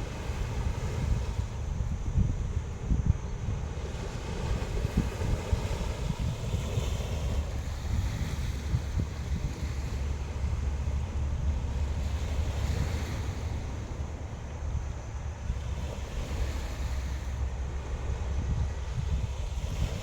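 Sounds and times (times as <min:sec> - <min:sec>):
sea waves washing onto beach: 0:00.0 - 0:20.0
wind buffeting microphone: 0:00.0 - 0:20.0.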